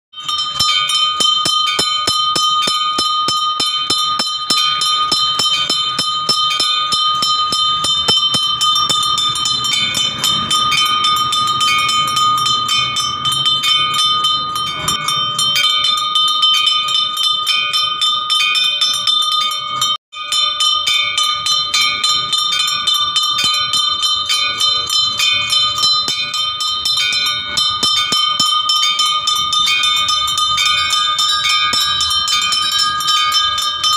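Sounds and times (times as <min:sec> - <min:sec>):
temple bell ringing rapidly: 0:00.1 - 0:33.9.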